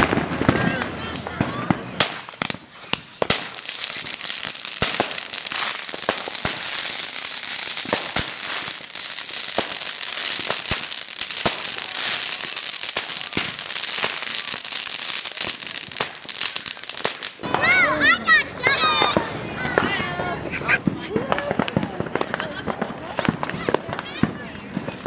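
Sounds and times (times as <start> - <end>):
fireworks crackling pops: 0.0 - 25.0
fireworks fizzing hiss: 0.0 - 25.0.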